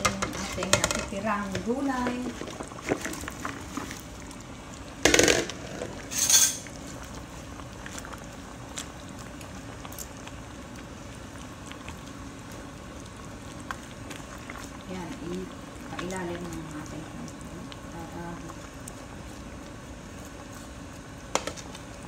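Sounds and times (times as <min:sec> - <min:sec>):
sauce bubbling: 0:00.0 - 0:22.0.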